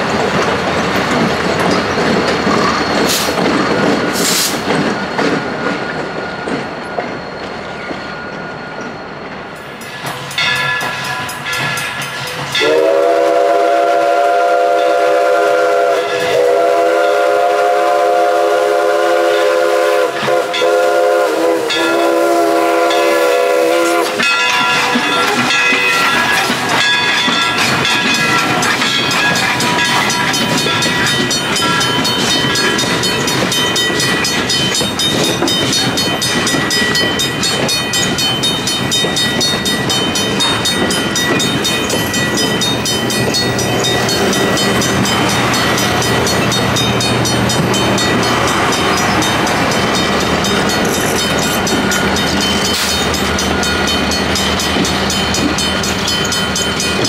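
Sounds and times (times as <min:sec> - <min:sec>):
train rolling rumble with clicking: 0:00.0 - 0:57.0.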